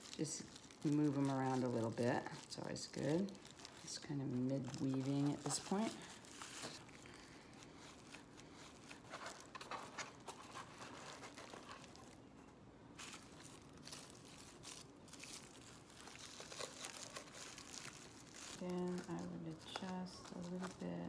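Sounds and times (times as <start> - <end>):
metallic foil crinkling: 0.0 - 21.0.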